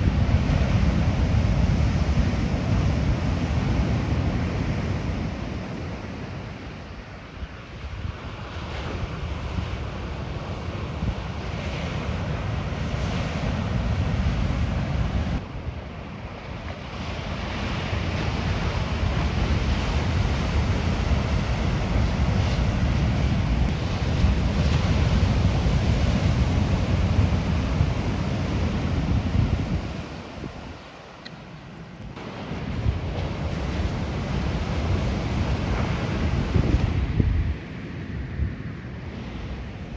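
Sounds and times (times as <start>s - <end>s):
ocean surf: 0.0s - 39.9s
wind buffeting microphone: 0.0s - 39.9s.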